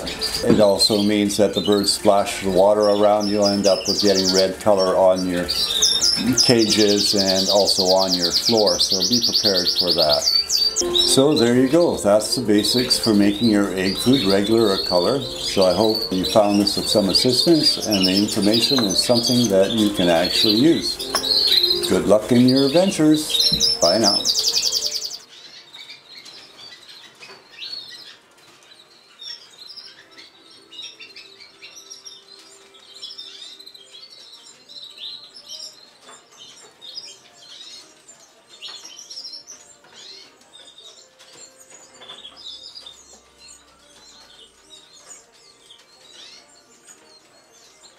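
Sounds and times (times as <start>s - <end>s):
canaries chirping: 0.0s - 47.9s.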